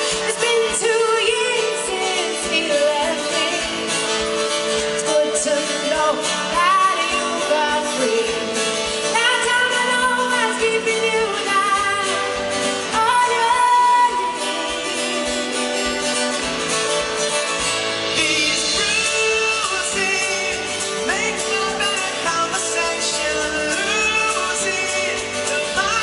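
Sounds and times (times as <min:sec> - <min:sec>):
woman singing: 0:00.0 - 0:16.0, 0:18.1 - 0:26.0
man singing: 0:00.0 - 0:16.1, 0:18.0 - 0:26.0
drums: 0:00.0 - 0:26.0
electric bass guitar: 0:00.0 - 0:26.0.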